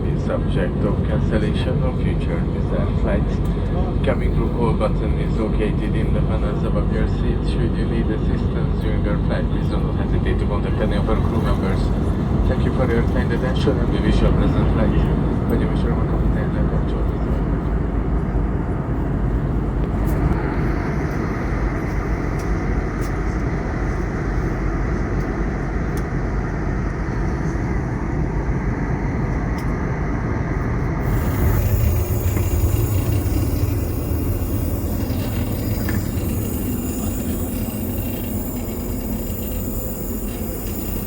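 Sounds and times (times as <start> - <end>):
airplane cabin roar: 0.0 - 41.0.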